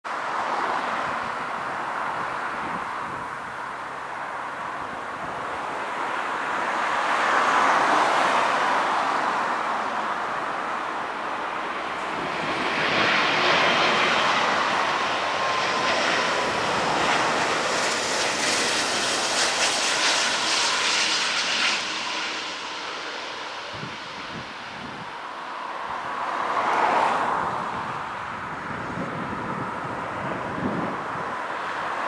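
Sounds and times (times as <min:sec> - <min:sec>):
jet airliner flying low: 0:00.1 - 0:32.0.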